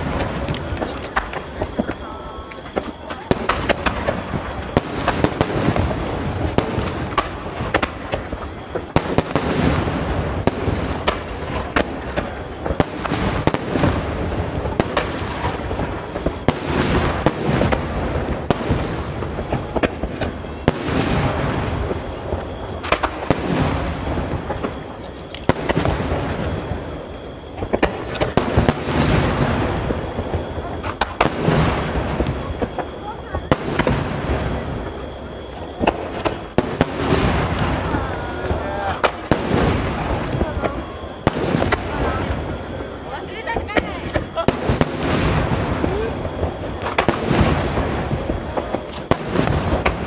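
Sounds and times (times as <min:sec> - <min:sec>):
firework shells launching and bursting: 0:00.0 - 0:50.0.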